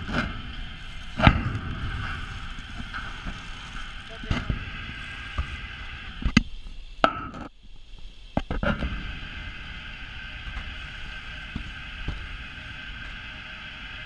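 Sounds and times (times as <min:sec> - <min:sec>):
water jet spraying from hose: 0:00.0 - 0:07.0, 0:08.4 - 0:14.0.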